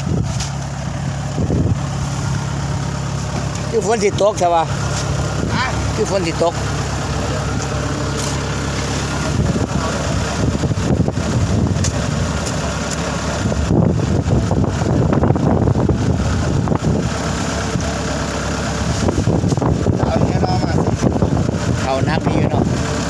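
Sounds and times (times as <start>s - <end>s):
wind buffeting microphone: 0.0s - 18.0s, 18.6s - 23.0s
engine rumbling: 0.0s - 23.0s.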